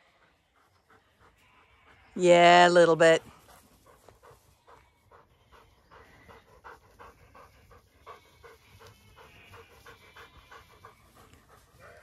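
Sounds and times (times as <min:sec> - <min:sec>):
dog panting: 0:00.0 - 0:02.2, 0:03.2 - 0:12.0.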